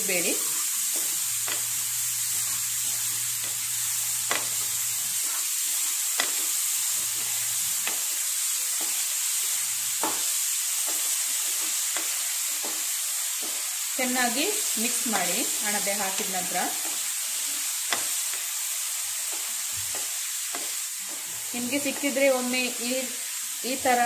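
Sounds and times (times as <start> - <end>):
mushrooms sizzling in hot oil: 0.0 - 24.0.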